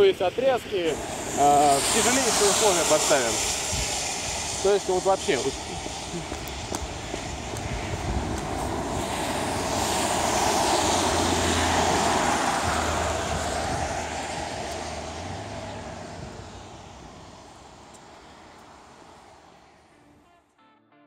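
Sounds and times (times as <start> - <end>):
vehicle passing by: 0.9 - 19.9.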